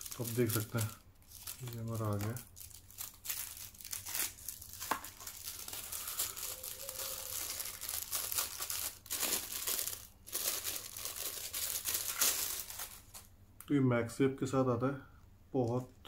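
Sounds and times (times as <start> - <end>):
packaging crinkling: 0.0 - 13.3.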